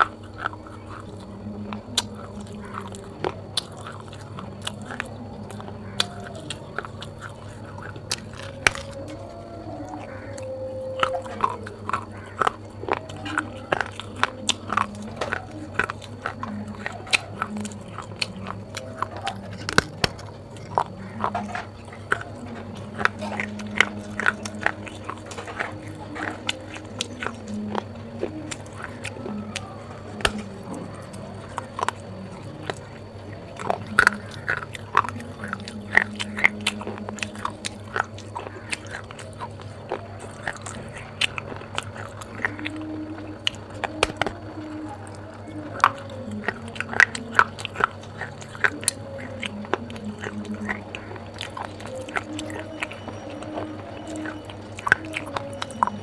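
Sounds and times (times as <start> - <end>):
clay pot crunching between teeth: 0.0 - 56.0.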